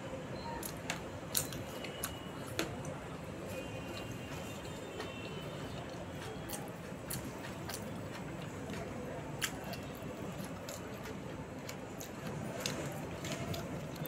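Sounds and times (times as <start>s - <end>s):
chewing with wet mouth clicks: 0.6s - 2.9s, 3.5s - 14.0s.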